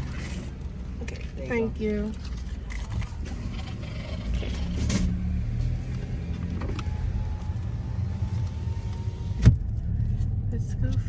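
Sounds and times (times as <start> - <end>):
car engine rumbling from inside: 0.0 - 11.0.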